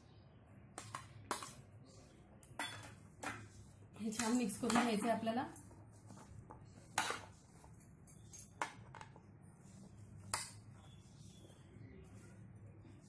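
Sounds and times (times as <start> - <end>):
spoon stirring fruit in bowl: 0.8 - 13.0.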